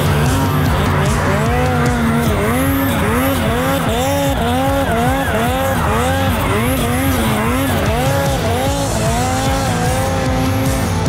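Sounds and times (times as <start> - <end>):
snowmobile engine revving: 0.0 - 11.0.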